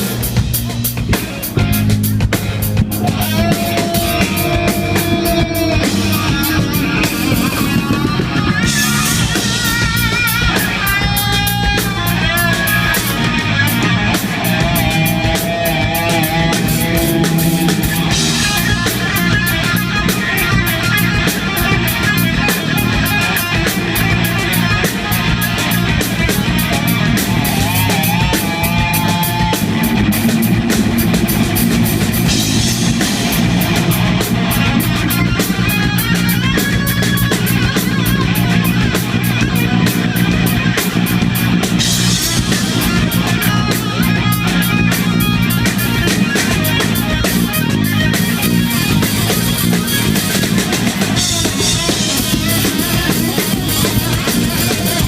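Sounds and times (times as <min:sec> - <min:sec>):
electric guitar lines: 0:00.0 - 0:55.0
hard rock band playing live: 0:00.0 - 0:55.0.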